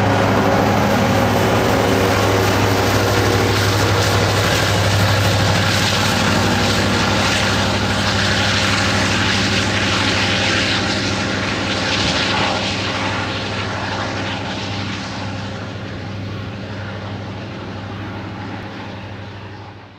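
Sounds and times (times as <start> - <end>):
diesel locomotive engines droning: 0.0 - 19.9
train rolling noise: 0.0 - 19.9.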